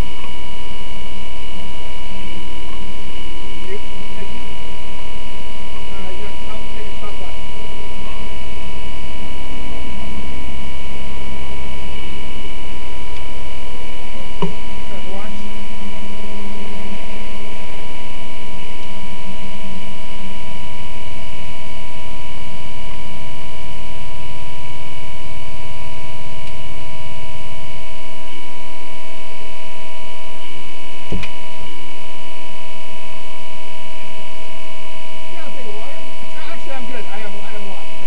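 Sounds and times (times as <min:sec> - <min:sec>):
loud cabin hum: 0:00.0 - 0:38.0.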